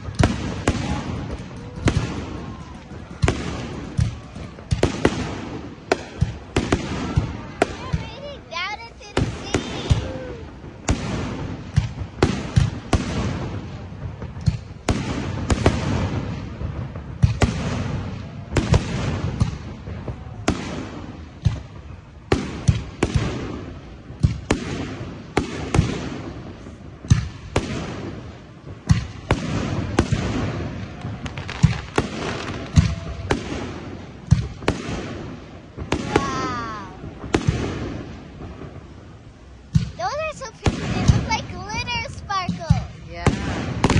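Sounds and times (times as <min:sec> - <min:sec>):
fireworks bursting with bangs: 0:00.0 - 0:43.9
fireworks crackle and hiss: 0:00.0 - 0:43.9.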